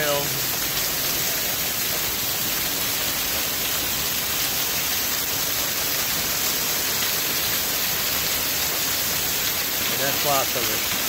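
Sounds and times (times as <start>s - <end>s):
hail hitting the ground: 0.0s - 11.0s.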